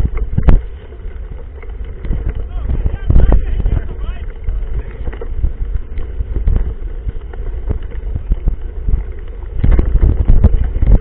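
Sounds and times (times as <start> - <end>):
low rumble: 0.0 - 11.0
wind buffeting microphone: 0.0 - 11.0
bike knocks and rattles: 1.4 - 11.0.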